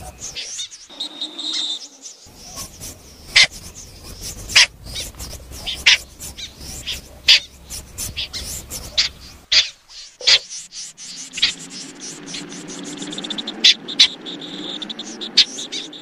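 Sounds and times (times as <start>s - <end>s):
bird harsh calls: 0.0s - 16.0s.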